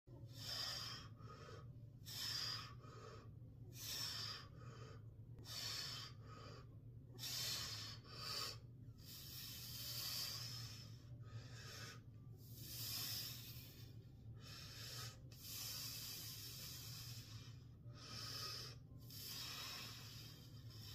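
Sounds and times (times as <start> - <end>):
man breathing hard: 0.1 - 20.9
steady low hum: 0.1 - 20.9.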